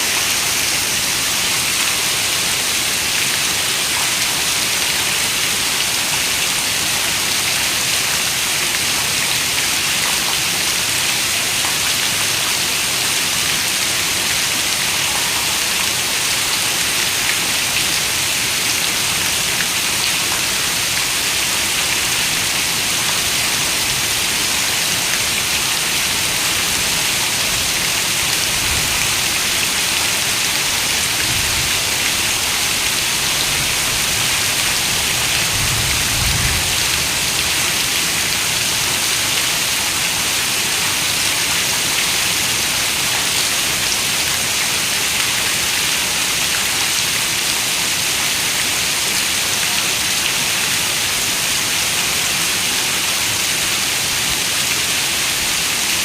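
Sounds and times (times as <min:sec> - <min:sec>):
heavy rain on a window: 0:00.1 - 0:56.0.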